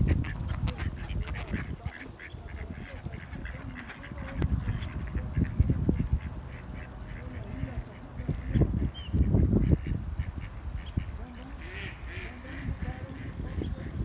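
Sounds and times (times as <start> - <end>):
ducks quacking: 0.0 - 14.0
wind buffeting microphone: 0.0 - 14.0.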